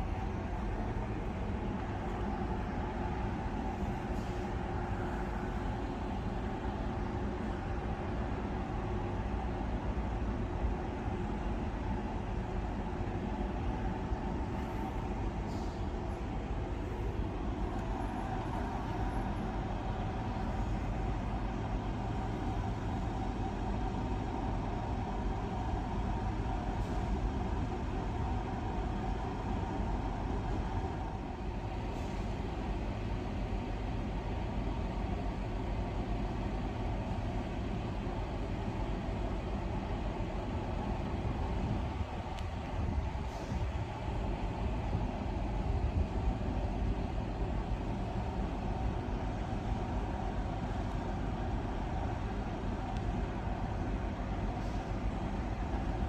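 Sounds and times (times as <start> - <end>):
road vehicles idling: 0.0 - 56.0.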